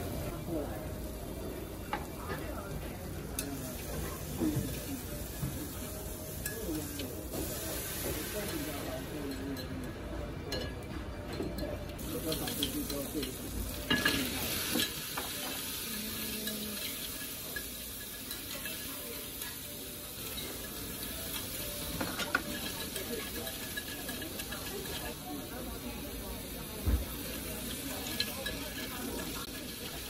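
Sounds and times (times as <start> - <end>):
food sizzling in a pot: 0.0 - 10.6, 11.9 - 30.0.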